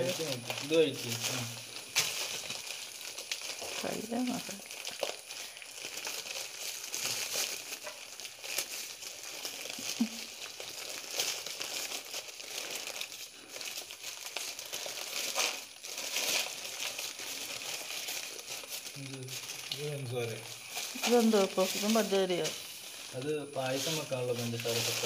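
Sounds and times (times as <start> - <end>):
plastic bags rustling: 0.0 - 25.0.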